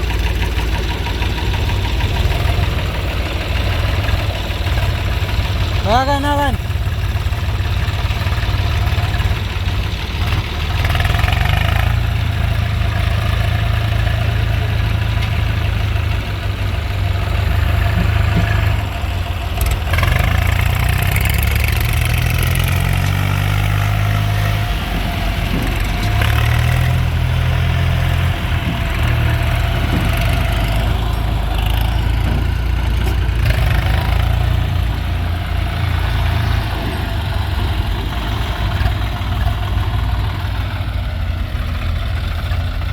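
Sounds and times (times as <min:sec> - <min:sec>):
diesel engines revving: 0:00.0 - 0:42.9.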